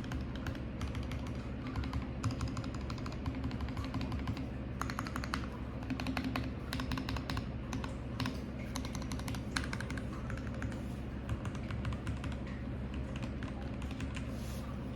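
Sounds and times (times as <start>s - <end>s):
mechanical keyboard typing: 0.0s - 12.4s
low steady hum: 0.0s - 14.9s.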